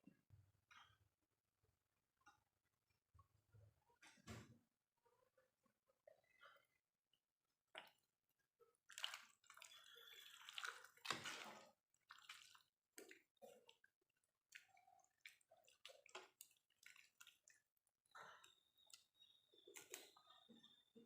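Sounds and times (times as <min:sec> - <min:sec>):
faint water running: 0:02.2 - 0:21.0.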